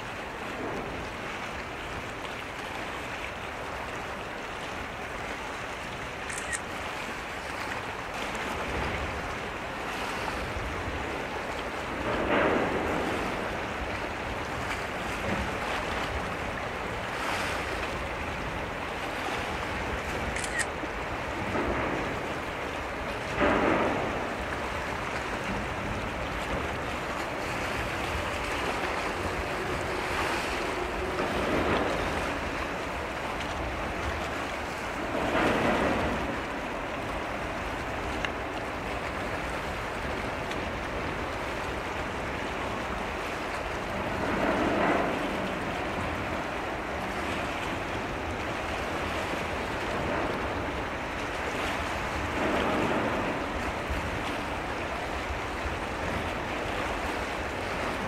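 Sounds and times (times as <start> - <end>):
waves washing against shore: 0.0 - 58.0.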